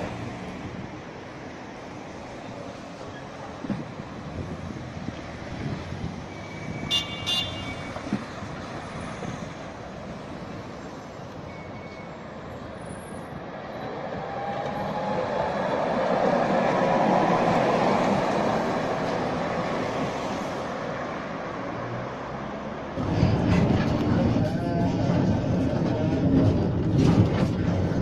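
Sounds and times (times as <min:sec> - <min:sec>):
street traffic: 0:00.0 - 0:28.0
tram rumbling on rails: 0:00.0 - 0:28.0.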